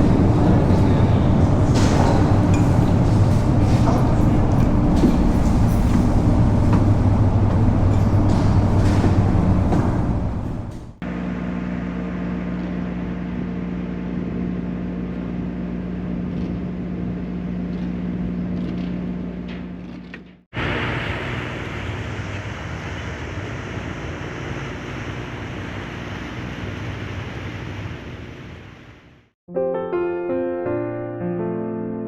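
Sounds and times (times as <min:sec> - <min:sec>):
engine drone: 0:00.0 - 0:29.0.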